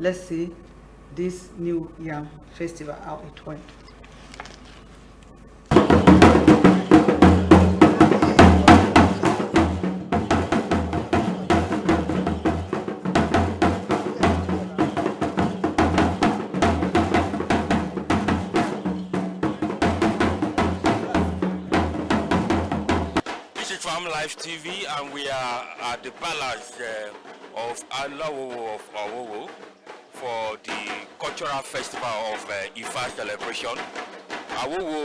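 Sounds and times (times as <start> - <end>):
fast drum strokes: 5.1 - 35.0.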